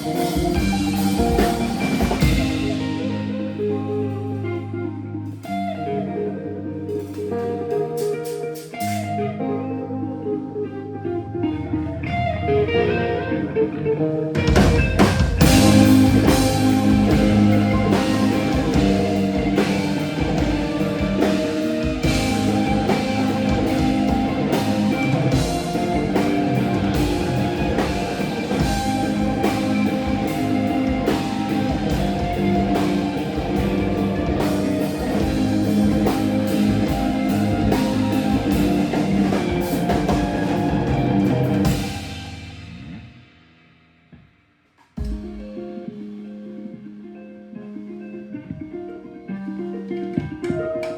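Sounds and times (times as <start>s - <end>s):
rock band playing: 0.0s - 43.3s, 45.0s - 50.9s.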